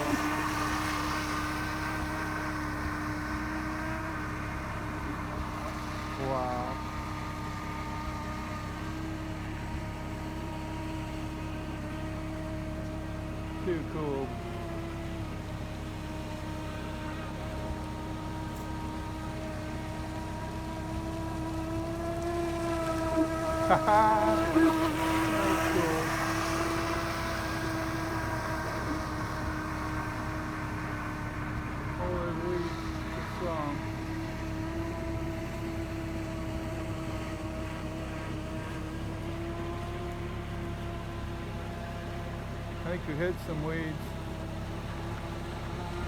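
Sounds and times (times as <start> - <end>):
low rush of water: 0.0 - 46.0
model boat motor whine: 0.0 - 46.0.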